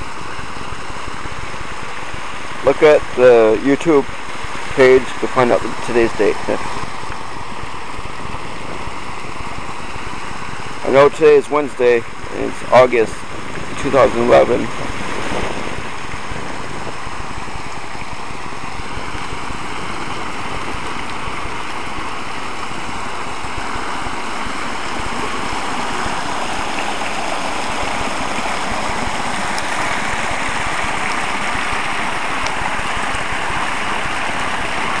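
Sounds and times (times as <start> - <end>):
fountain water cascading: 0.0 - 35.0.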